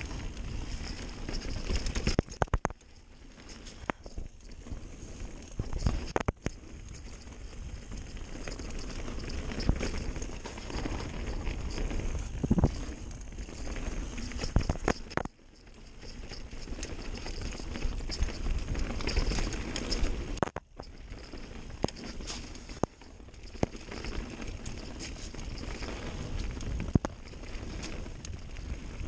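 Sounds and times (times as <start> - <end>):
bike rattling: 0.0 - 29.0
tyre and wind noise: 0.0 - 29.0.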